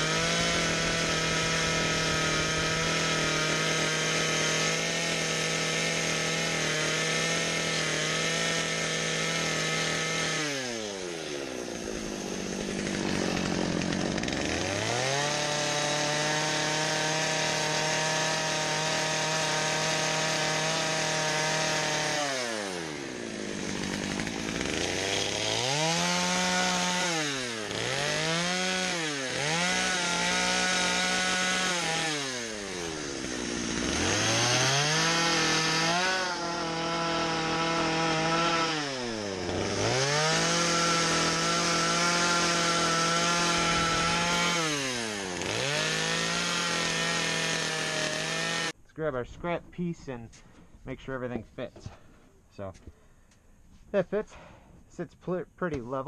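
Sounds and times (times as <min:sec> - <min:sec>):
chainsaw cutting a log: 0:00.0 - 0:48.8.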